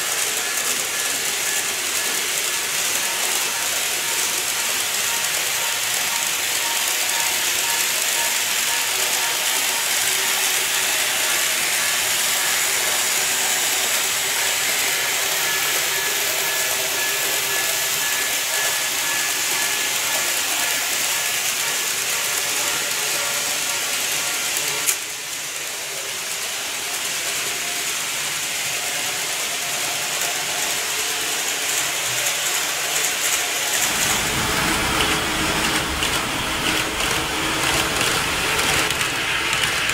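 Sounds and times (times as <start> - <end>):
model train whirring rattle: 0.0 - 39.9.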